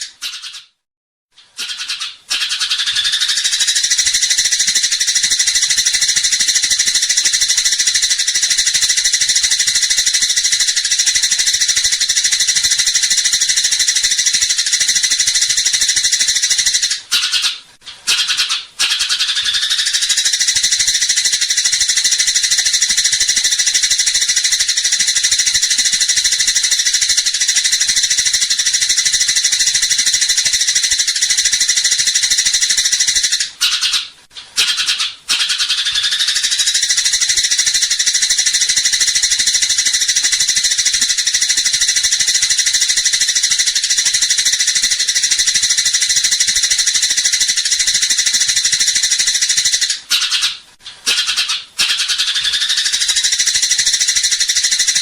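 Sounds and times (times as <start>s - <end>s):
sparrows chattering: 0.0s - 0.8s, 1.5s - 55.0s.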